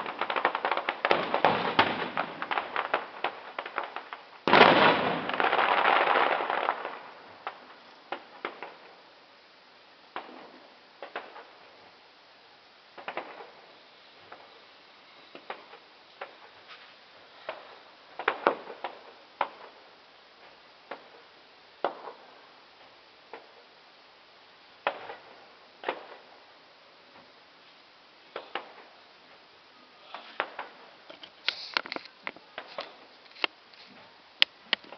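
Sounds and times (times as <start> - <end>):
fireworks banging: 0.0 - 9.1, 10.1 - 11.9, 12.9 - 23.8, 24.8 - 26.4, 28.3 - 34.9
faint steady hiss: 0.0 - 34.9.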